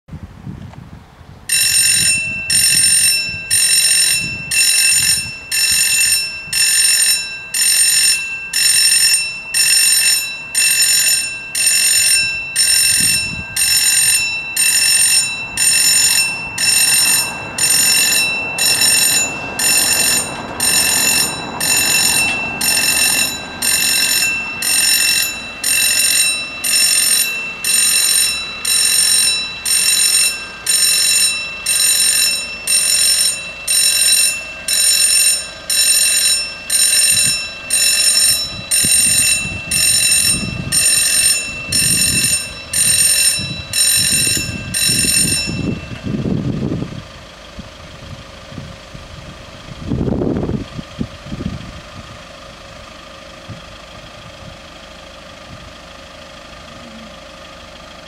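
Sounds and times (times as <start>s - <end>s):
level crossing bells ringing: 1.5s - 49.7s.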